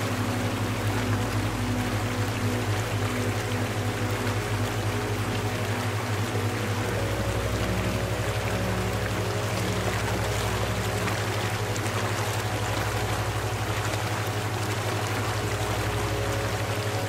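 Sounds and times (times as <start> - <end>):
flowing water rushing: 0.0 - 17.0
low pulsing hum: 0.0 - 17.0.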